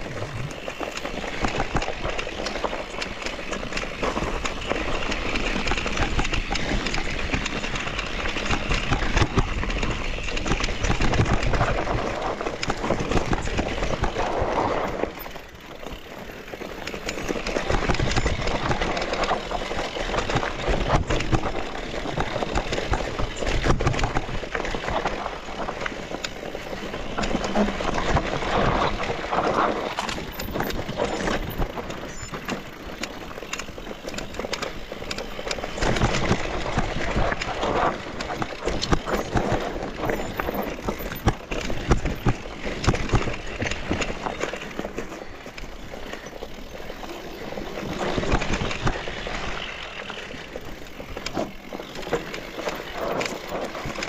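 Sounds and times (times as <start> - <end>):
bike knocks and rattles: 0.0 - 54.0
bike tyres rolling and skidding: 0.0 - 54.0.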